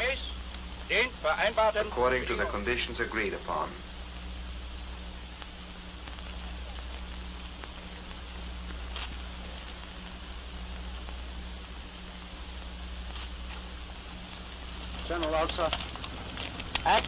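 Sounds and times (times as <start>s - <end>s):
faint crackles: 0.0s - 17.0s
film soundtrack hiss and hum: 0.0s - 17.0s.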